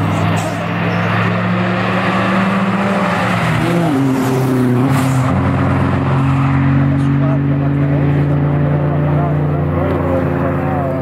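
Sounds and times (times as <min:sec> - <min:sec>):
car engines accelerating hard: 0:00.0 - 0:11.0.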